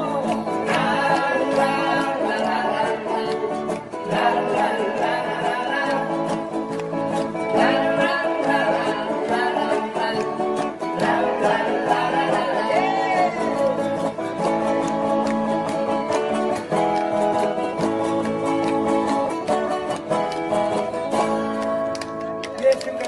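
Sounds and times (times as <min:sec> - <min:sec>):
person singing: 0:00.0 - 0:21.5
strummed acoustic guitars: 0:00.0 - 0:23.0.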